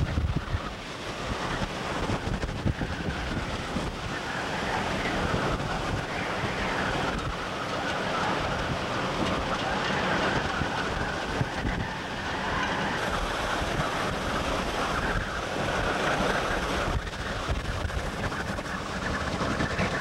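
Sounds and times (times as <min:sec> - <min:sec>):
strong wind on microphone: 0:00.0 - 0:20.0
waves breaking against docks: 0:00.0 - 0:20.0.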